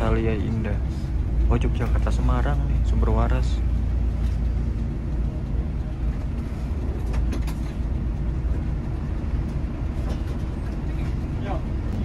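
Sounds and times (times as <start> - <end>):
bus diesel engine rumble: 0.0 - 12.0.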